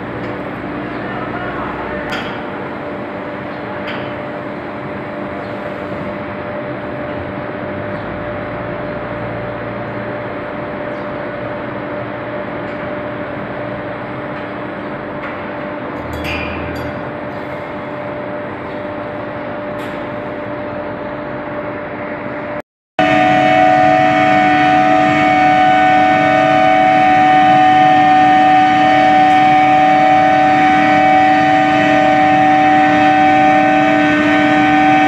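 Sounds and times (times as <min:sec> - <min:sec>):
induction furnace humming: 0:00.0 - 0:35.0.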